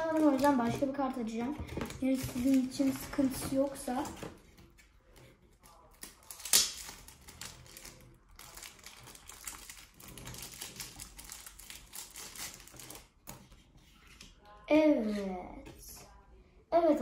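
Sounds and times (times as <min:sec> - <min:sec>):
card packets rustling and clicking: 0:00.0 - 0:14.4.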